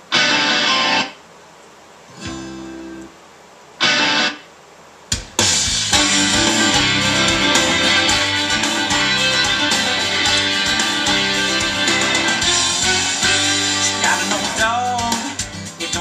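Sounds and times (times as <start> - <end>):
guitar music on car radio: 0.0 - 1.2, 2.2 - 3.2, 3.8 - 4.4, 5.1 - 16.0.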